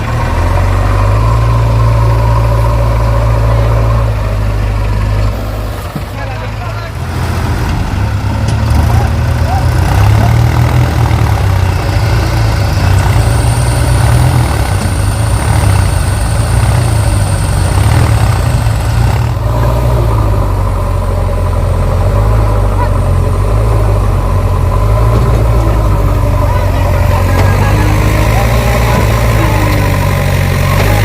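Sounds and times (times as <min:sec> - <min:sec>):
diesel machinery engine running: 0:00.0 - 0:31.0.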